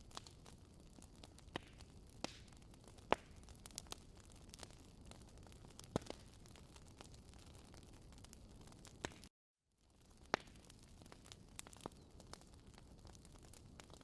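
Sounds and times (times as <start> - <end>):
campfire hissing: 0.0 - 9.2, 10.2 - 14.0
campfire sharp pops: 0.1 - 7.1, 7.8 - 9.3, 10.1 - 14.0.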